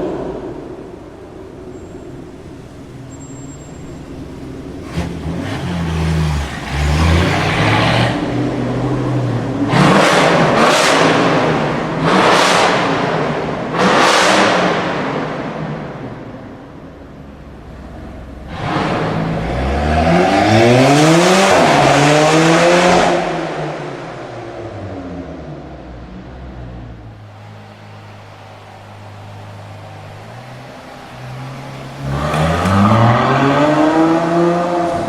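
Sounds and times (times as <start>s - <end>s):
car engine accelerating in tunnel: 0.0s - 35.0s
engine revs: 2.3s - 16.1s, 17.7s - 35.0s.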